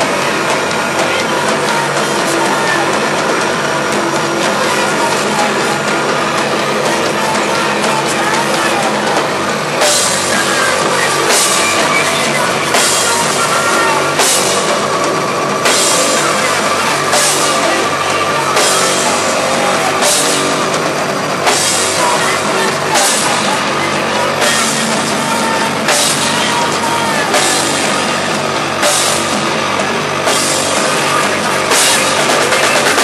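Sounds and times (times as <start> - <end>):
crash cymbal hits: 0.0 - 33.0
live rock band playing: 0.0 - 33.0.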